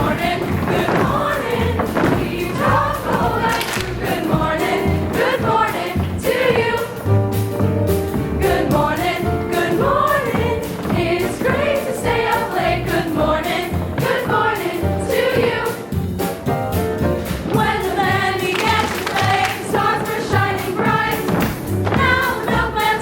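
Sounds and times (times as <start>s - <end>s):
ensemble singing in chorus: 0.0s - 7.2s, 8.4s - 16.0s, 17.4s - 23.0s
musical accompaniment with steady beat: 0.0s - 23.0s.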